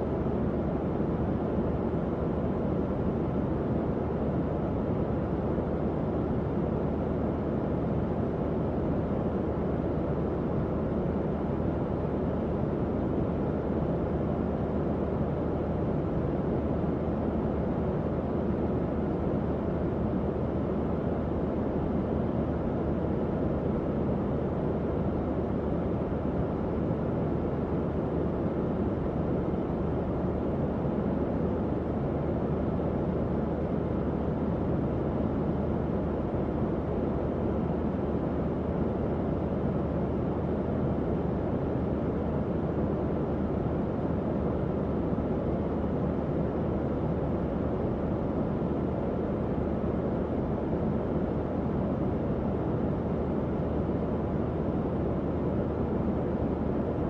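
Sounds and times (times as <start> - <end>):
fan rush of air: 0.0 - 57.0.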